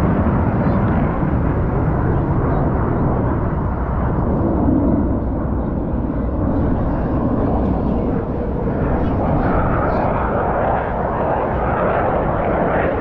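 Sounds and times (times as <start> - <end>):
fighter jet engine rumbling: 0.0 - 13.0.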